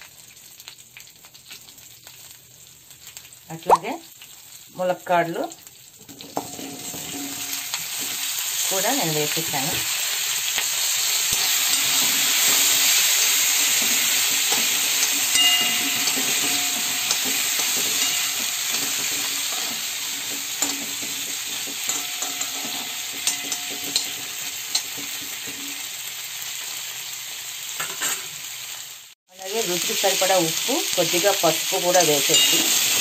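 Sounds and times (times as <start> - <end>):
vegetables sizzling in a wok: 0.0 - 33.0.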